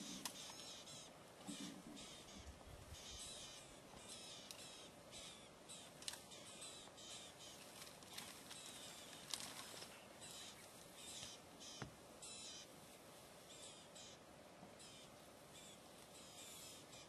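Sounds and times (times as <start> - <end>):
faint bird calls chattering: 0.0 - 12.8, 13.4 - 17.0
bush ambience: 0.0 - 17.0.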